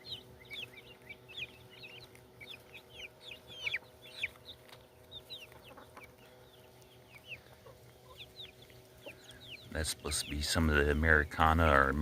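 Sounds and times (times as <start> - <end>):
chicks peeping: 0.0 - 12.0
faint steady hum: 0.0 - 12.0.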